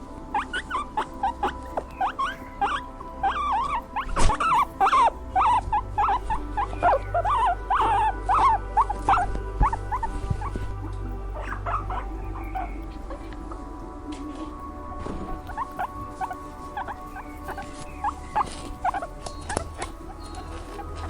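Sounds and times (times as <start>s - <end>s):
background music: 0.0s - 21.0s
small animals squeaking and yelping: 0.0s - 21.0s.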